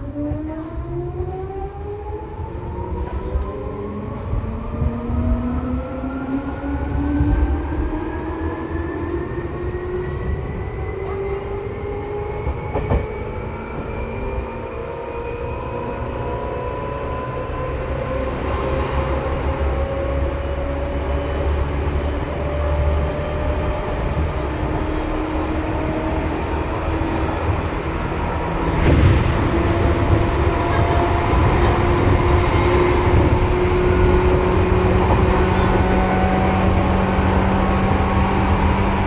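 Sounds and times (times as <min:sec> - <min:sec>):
wheels rumbling on rails: 0:00.0 - 0:39.0.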